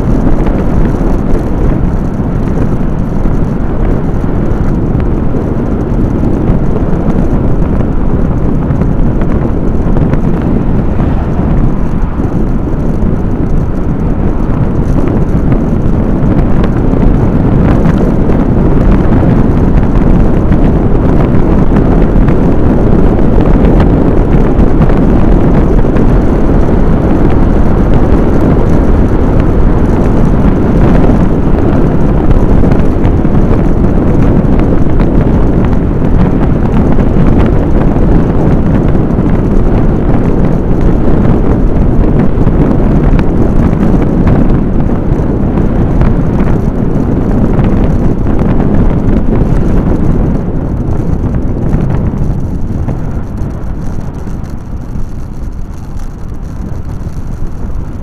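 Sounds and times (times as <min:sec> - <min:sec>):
vehicle and road noise: 0:00.0 - 0:58.0
wind buffeting microphone: 0:00.0 - 0:58.0.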